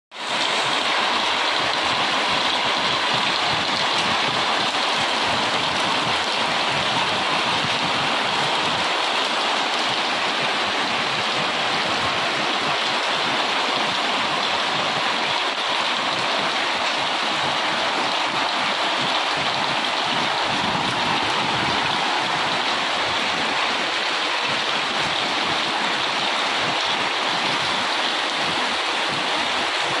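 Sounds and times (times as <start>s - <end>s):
heavy rain on leaves: 0.1s - 30.0s.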